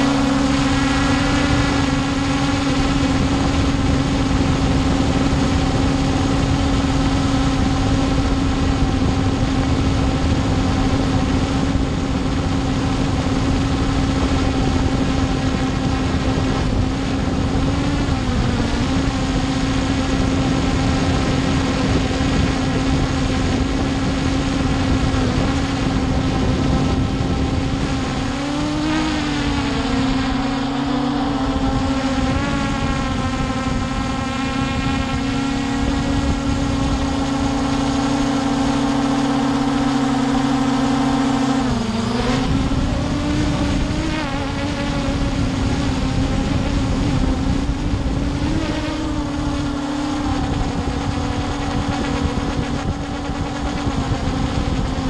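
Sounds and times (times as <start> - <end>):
quadcopter motors buzzing hum: 0.0 - 55.0.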